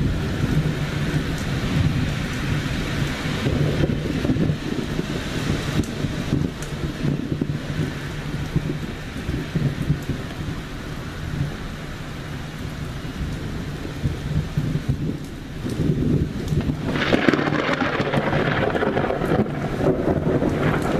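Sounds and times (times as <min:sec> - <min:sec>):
steady rain: 0:00.0 - 0:20.9
thunder rumbling: 0:00.0 - 0:20.9.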